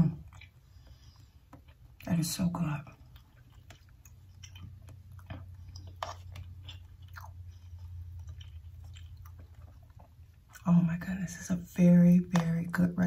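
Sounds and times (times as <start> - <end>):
person chewing food: 0.0 - 10.8
steady low hum: 0.0 - 13.0.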